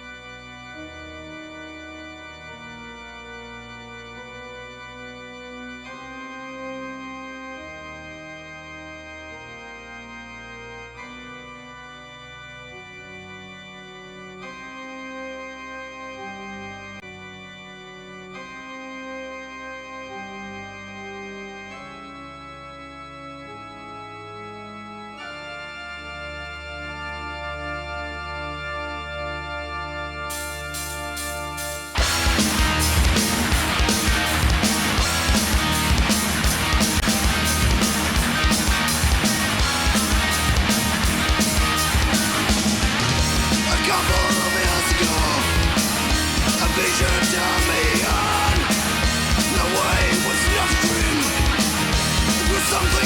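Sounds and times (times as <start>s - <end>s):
organ chords: 0.0s - 53.0s.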